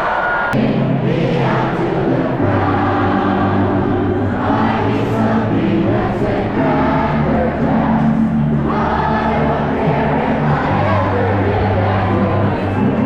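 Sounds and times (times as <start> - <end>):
held bass notes: 0.6 - 13.0
music with singing voices: 0.6 - 13.0.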